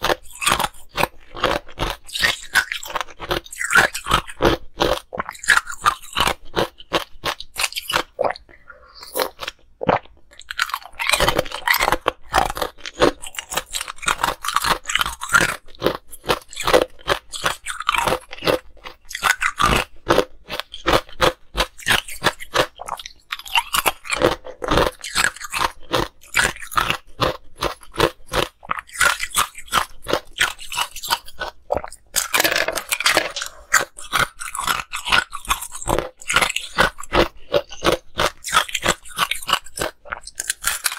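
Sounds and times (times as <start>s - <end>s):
crunching ice cubes: 0.0s - 8.2s, 9.1s - 40.9s.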